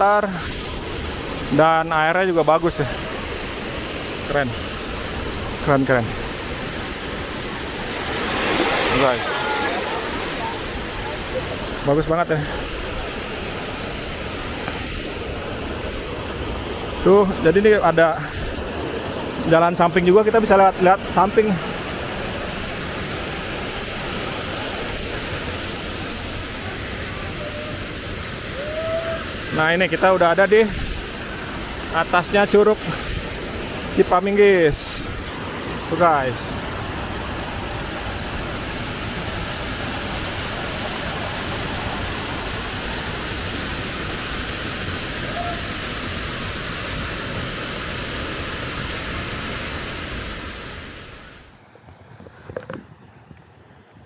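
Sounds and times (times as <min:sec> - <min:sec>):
waterfall rushing: 0:00.0 - 0:51.6.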